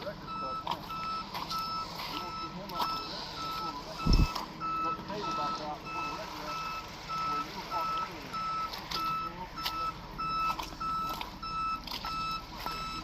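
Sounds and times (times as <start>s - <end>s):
reversing alarm beeping: 0.0s - 13.0s
truck engine running: 0.0s - 13.0s.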